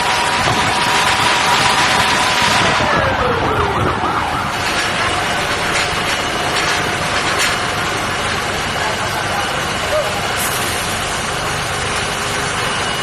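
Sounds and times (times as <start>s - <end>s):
emergency vehicle siren: 0.0s - 13.0s
engine and traffic noise: 0.0s - 13.0s.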